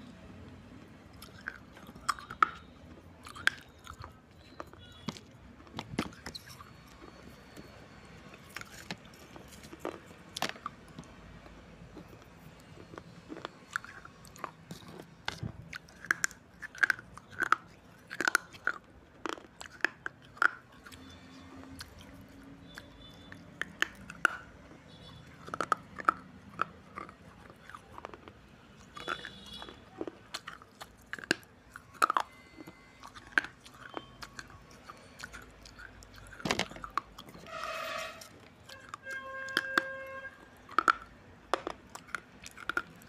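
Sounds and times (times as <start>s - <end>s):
crunching and chewing clay: 0.0s - 43.0s.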